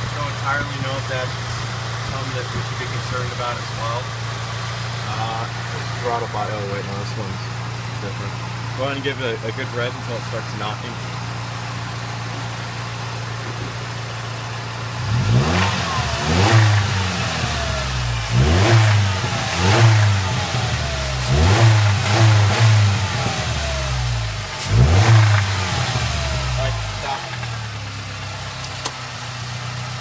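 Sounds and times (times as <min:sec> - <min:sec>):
engine idling and revving: 0:00.0 - 0:30.0
engine ticking: 0:00.0 - 0:30.0.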